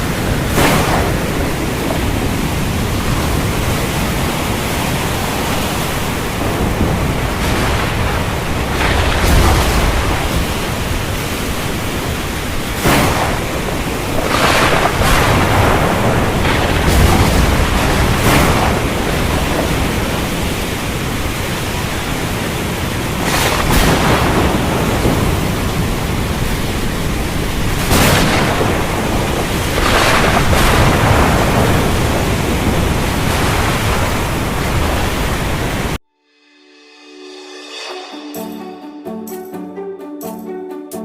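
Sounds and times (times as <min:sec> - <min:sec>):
waves breaking: 0:00.0 - 0:36.0.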